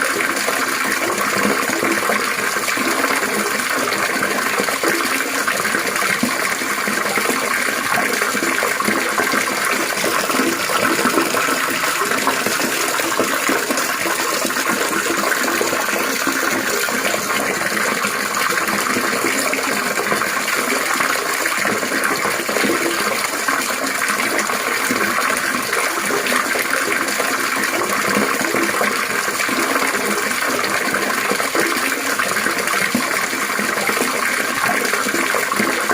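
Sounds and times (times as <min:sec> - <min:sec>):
water trickling and splashing: 0:00.0 - 0:35.9.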